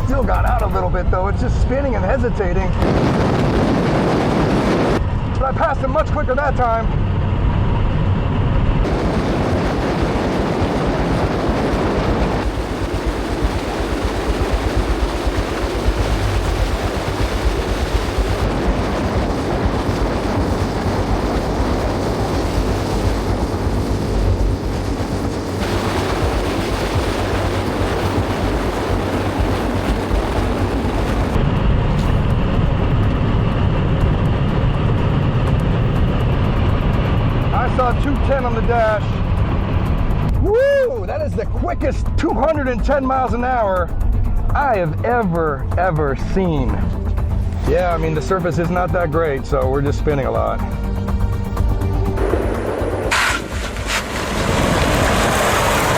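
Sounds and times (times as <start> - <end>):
wind and tyre noise: 0.0 - 44.7, 46.4 - 55.9.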